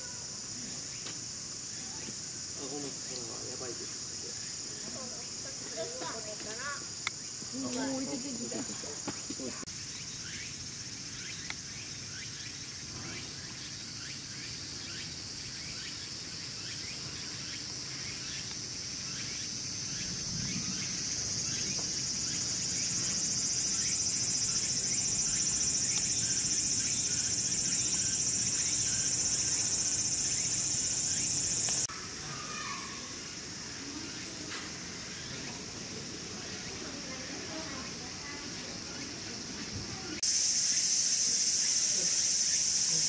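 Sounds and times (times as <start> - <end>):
cicadas droning: 0.0 - 43.0
quickly pulsing insect call: 0.0 - 43.0.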